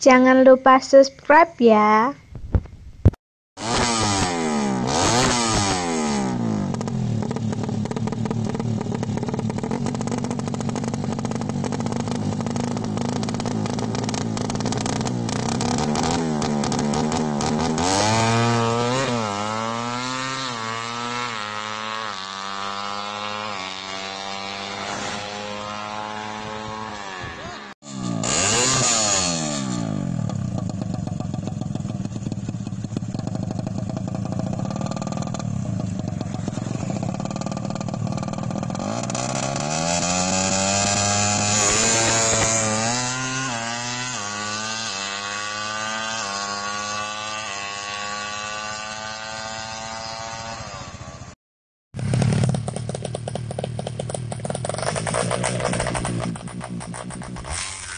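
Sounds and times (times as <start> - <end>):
motorcycle engine revving: 3.6 - 51.4, 52.0 - 57.9.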